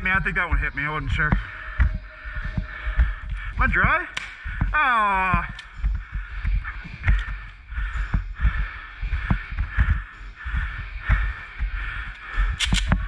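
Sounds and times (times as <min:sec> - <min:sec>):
footsteps with scuffs: 0:00.0 - 0:13.0.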